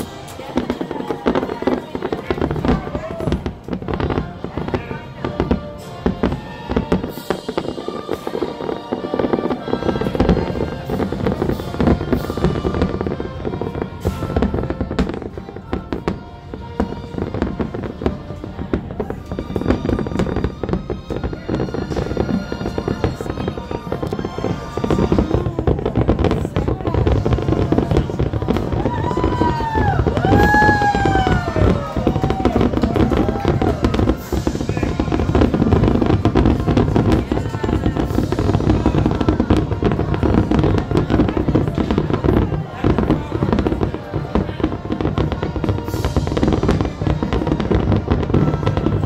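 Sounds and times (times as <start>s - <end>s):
fireworks bangs and crackles: 0.0s - 49.0s
fireworks whistles: 0.0s - 49.0s.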